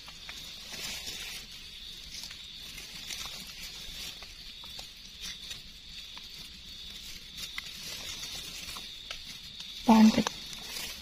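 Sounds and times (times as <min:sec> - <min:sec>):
leaf litter rustling and crackling: 0:00.0 - 0:11.0
small irregular clicks: 0:00.0 - 0:11.0.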